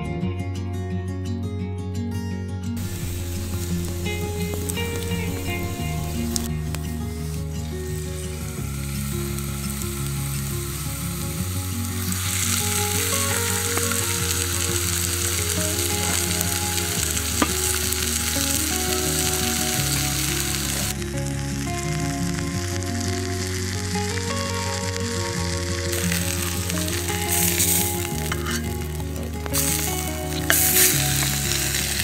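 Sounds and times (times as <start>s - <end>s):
background music: 0.0s - 32.0s
steak sizzling in a pan: 2.8s - 32.0s.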